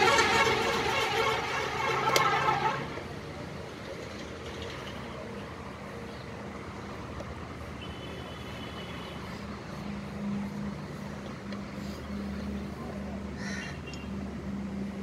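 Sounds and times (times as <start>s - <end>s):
road traffic: 0.0s - 15.0s
vehicle engine hum: 0.0s - 15.0s.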